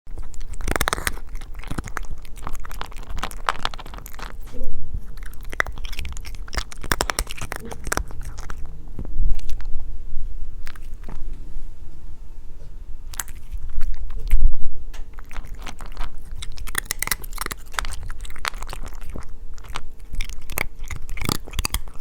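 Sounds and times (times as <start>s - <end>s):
cat crunching dry food: 0.1s - 11.3s, 13.0s - 22.0s.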